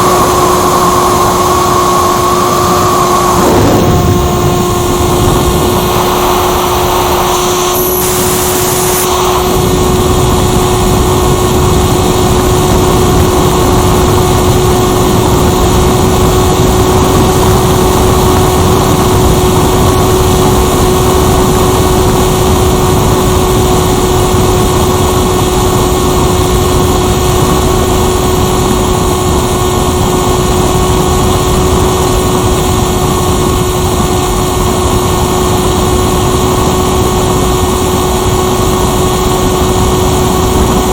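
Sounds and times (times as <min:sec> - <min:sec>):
model plane motor whine: 0:00.0 - 0:40.9
wind rushing on microphone: 0:00.0 - 0:40.9.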